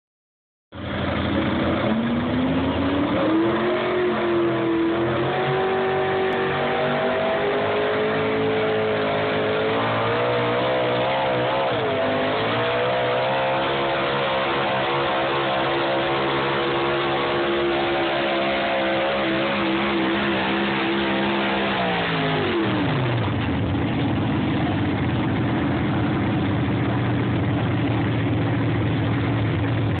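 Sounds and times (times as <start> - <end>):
truck engine under heavy load: 0.7 - 30.0.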